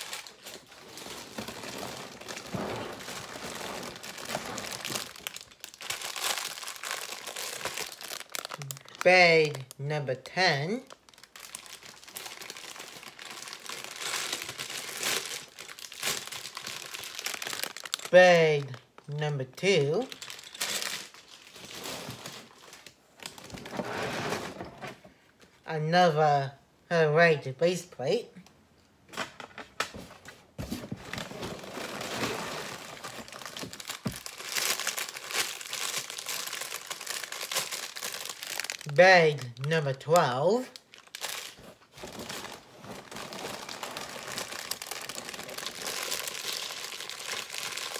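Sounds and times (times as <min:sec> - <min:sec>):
plastic bags crinkling: 0:00.0 - 0:09.8, 0:10.5 - 0:19.1, 0:19.8 - 0:23.8, 0:30.8 - 0:47.9.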